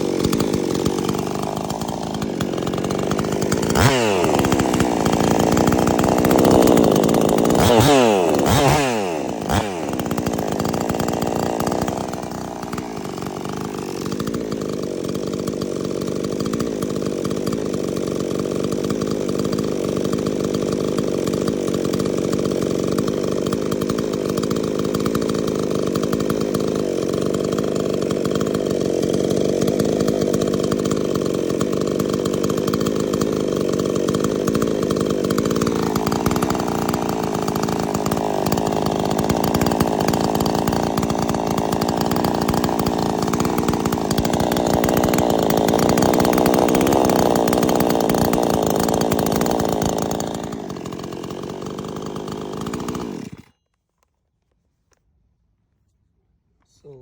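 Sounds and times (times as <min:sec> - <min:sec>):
chainsaw engine running: 0:00.0 - 0:53.6, 0:56.7 - 0:57.0.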